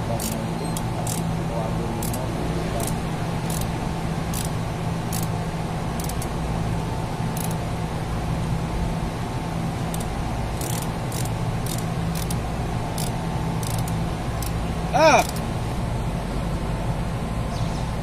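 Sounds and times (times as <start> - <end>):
machinery drone with low hum: 0.0 - 18.0.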